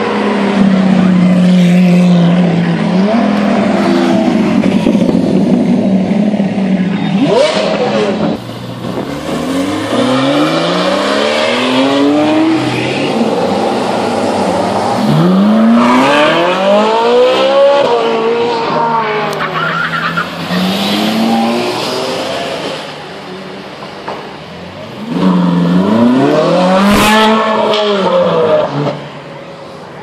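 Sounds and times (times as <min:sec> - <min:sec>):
supercar engines accelerating: 0:00.0 - 0:29.1.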